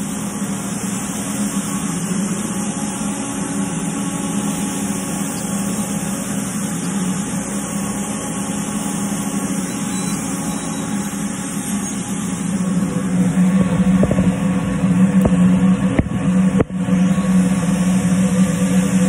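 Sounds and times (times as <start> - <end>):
machinery hum with hiss: 0.0 - 19.0.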